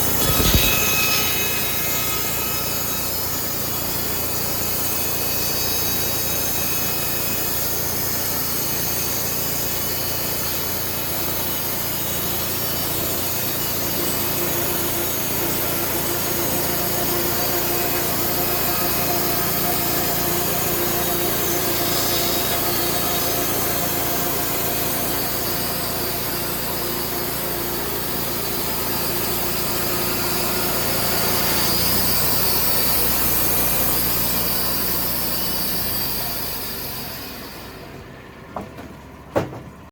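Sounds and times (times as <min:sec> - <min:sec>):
saw blade cutting log: 0:00.0 - 0:38.0
mill engine under load: 0:00.0 - 0:39.9.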